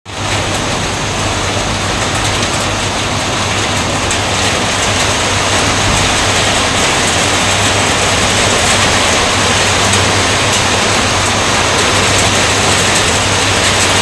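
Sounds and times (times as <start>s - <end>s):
heavy rain: 0.0s - 14.0s
strong wind: 0.1s - 14.0s.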